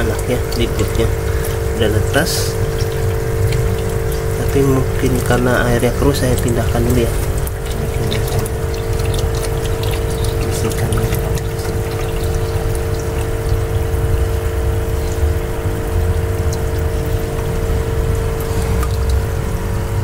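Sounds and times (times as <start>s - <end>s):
faint dripping ticks: 0.0s - 19.6s
electric pump humming: 0.0s - 20.0s
water trickling: 0.0s - 20.0s.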